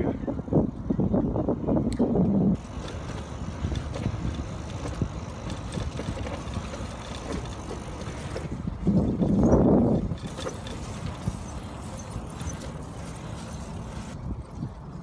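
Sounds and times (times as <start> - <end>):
bicycle tyre and wind noise: 0.0 - 15.0.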